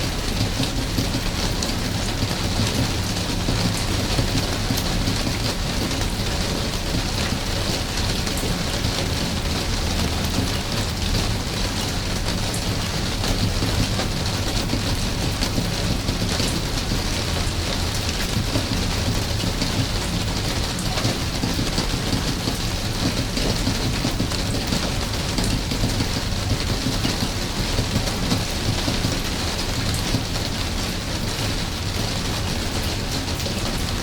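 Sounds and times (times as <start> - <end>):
close raindrops ticking: 0.0 - 34.0
steady rain: 0.0 - 34.0.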